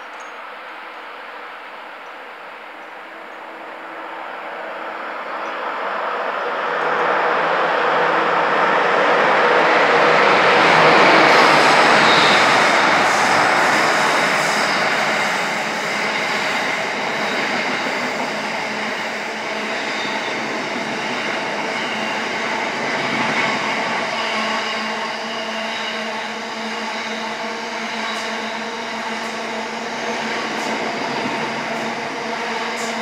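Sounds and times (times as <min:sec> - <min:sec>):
diesel locomotive passing: 0:00.0 - 0:33.0.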